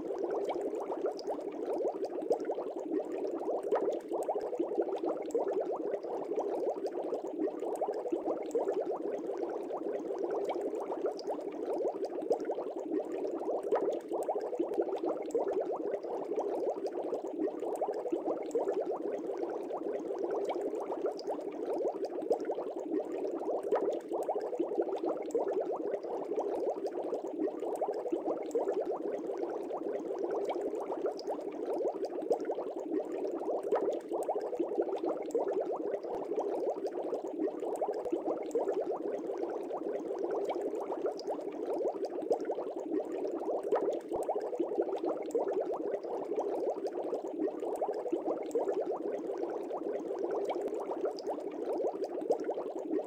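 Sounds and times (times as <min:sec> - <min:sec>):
water bubbling: 0:00.0 - 0:53.0.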